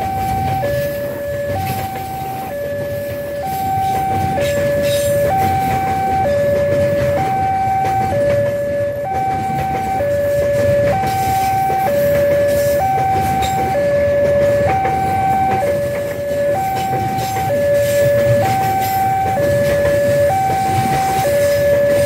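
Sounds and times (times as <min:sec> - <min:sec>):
level crossing alarm ding-dong: 0:00.0 - 0:22.0
train wheels rumbling on rail: 0:00.0 - 0:22.0.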